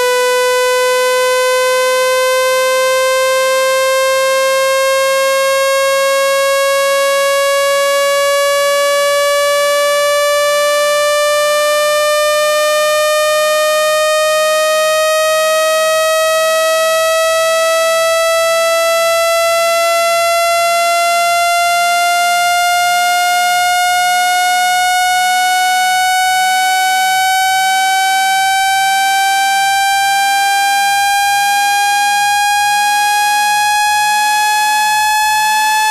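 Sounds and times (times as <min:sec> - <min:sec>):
buzzy electronic tone rising in pitch: 0:00.0 - 0:35.9.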